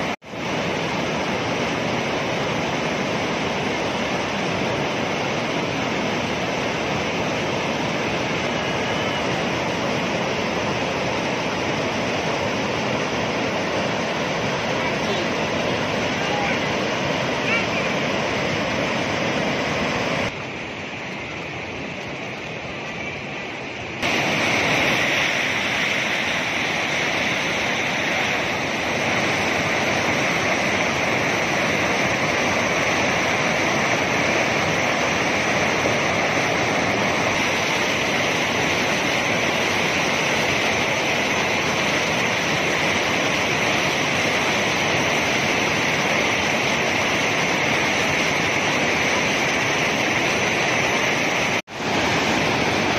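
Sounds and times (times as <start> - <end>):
river rapids roaring: 0.0 - 52.9.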